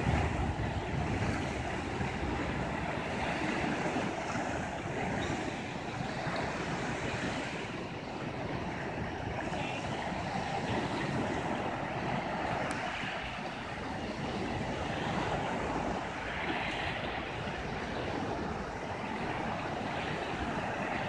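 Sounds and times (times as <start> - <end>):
sea waves washing against shore: 0.0 - 21.0
wind rumbling on microphone: 0.0 - 21.0.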